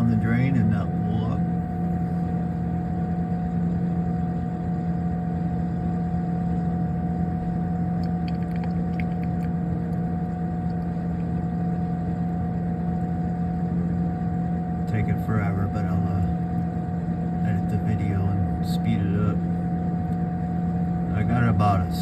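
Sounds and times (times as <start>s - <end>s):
refrigerator compressor hum: 0.0s - 22.0s.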